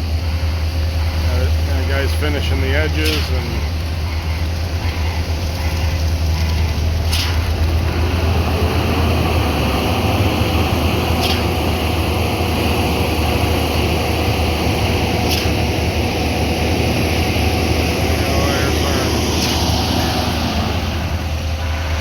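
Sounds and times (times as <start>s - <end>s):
construction machinery engines rumbling: 0.0s - 22.0s.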